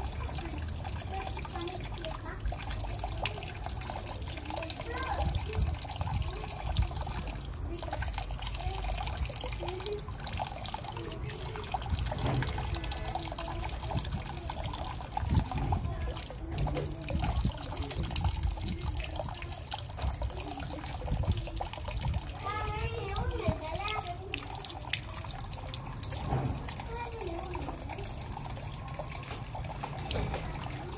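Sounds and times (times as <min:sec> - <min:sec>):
water trickling into a basin: 0:00.0 - 0:30.9.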